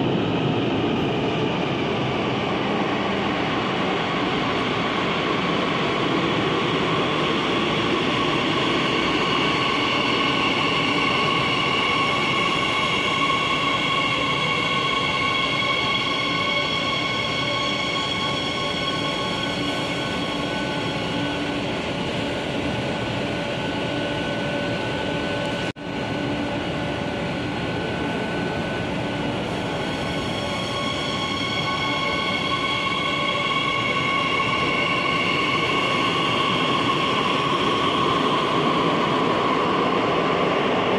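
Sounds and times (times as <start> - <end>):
steady whining tones: 0.0 - 40.9.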